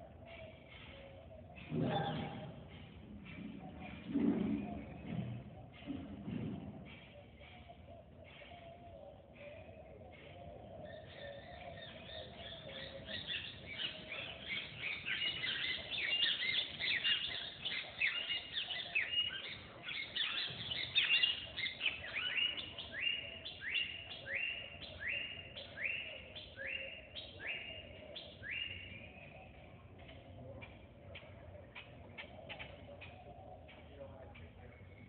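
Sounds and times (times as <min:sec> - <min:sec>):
birds chirping chorus: 0:00.0 - 0:35.0
repeated sweeping bird call: 0:00.0 - 0:35.0.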